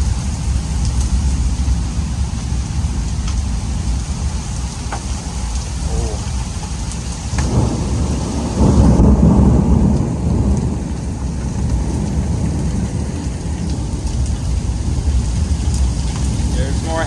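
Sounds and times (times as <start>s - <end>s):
steady rain: 0.0s - 17.0s
thunder rolling: 0.0s - 17.0s.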